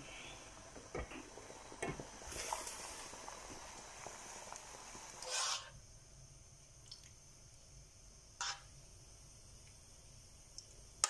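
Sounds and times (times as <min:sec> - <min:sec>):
water simmering and steaming: 0:00.0 - 0:11.0.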